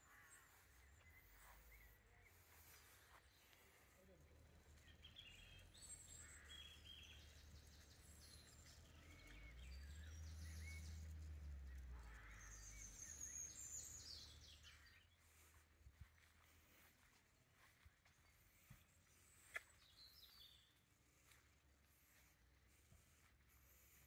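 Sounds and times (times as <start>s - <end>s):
small birds chirping and trilling: 0.0s - 24.0s.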